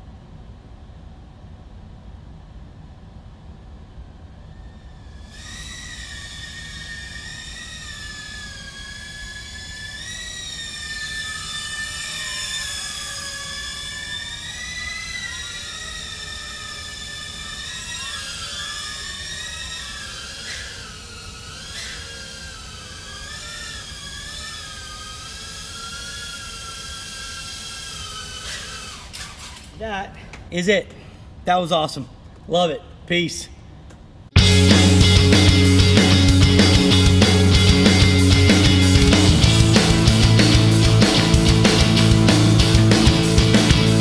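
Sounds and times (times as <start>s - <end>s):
quadcopter motors whining: 4.3s - 30.0s, 34.3s - 44.0s.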